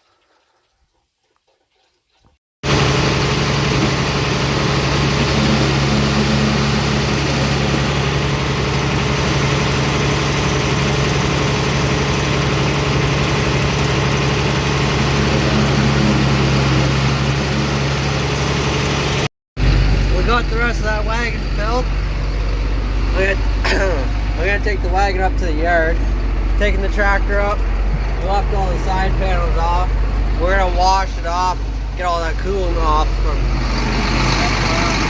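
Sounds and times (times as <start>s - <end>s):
tractor engine running: 2.6s - 35.0s.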